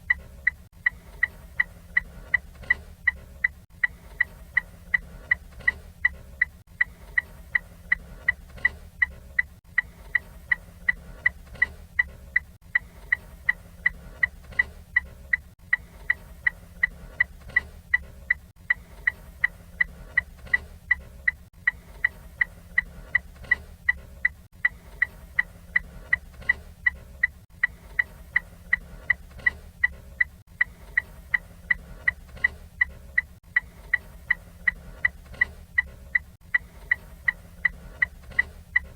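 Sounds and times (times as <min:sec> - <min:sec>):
car turn signal ticking: 0:00.0 - 0:38.9.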